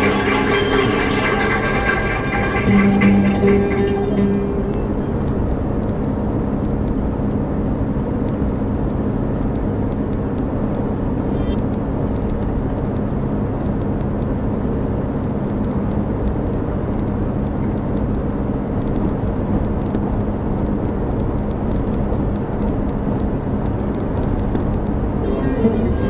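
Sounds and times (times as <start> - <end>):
car road and engine noise: 3.6 - 26.0.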